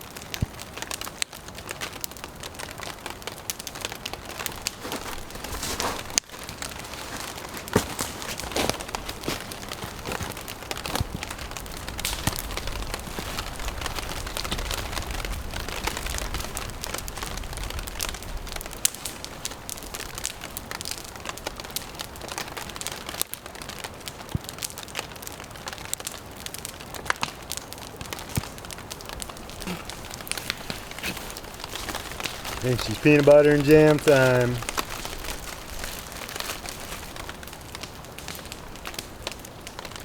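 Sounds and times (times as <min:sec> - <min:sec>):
campfire crackling and popping: 0:00.0 - 0:40.0
rain patter: 0:00.0 - 0:40.0.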